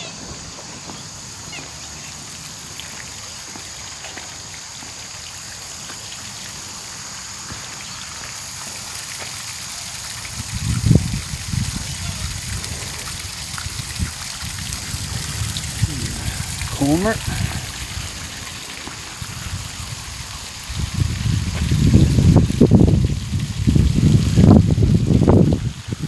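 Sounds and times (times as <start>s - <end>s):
trickling water: 0.0s - 26.0s.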